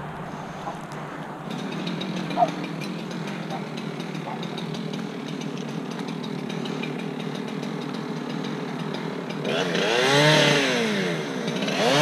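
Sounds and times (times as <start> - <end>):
chainsaw idling and revving: 0.0 - 12.0.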